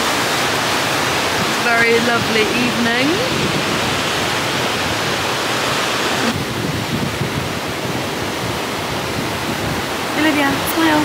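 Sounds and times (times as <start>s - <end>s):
ocean surf breaking on shore: 0.0s - 11.0s.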